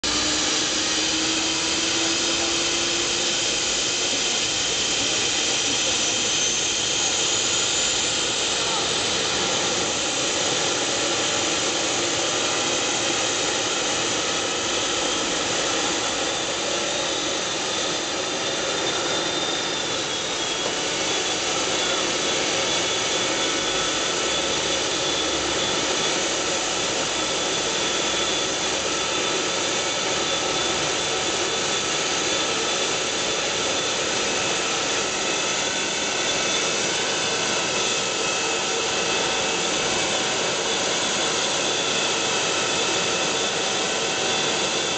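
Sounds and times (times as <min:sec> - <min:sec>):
helicopter turbine whine: 0:00.0 - 0:44.9.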